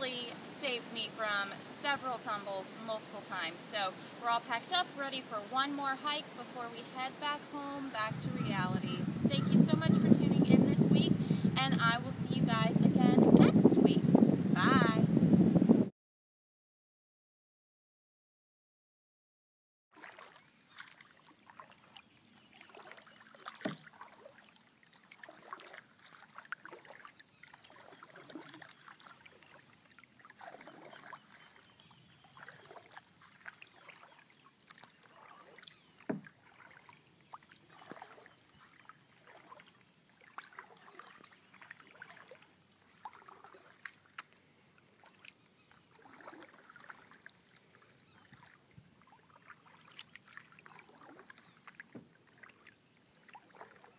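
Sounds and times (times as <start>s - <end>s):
paddles swishing through water: 0.0s - 15.1s, 19.9s - 53.9s.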